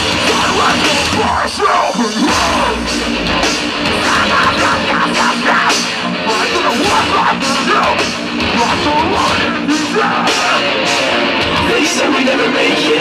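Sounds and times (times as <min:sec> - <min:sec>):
distorted electric guitars: 0:00.0 - 0:13.0
drums: 0:00.0 - 0:13.0
vocals: 0:00.0 - 0:13.0.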